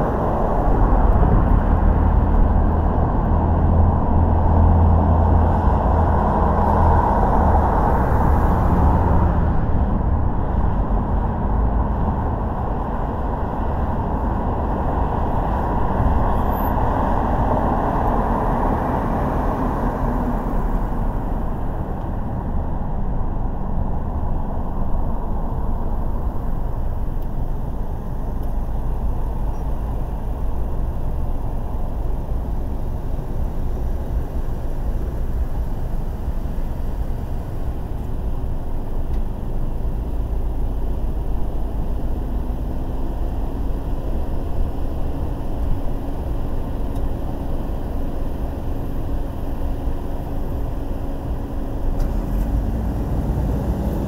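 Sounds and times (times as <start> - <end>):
car engine hum: 0.0 - 54.0
tyre and road noise: 0.0 - 54.0.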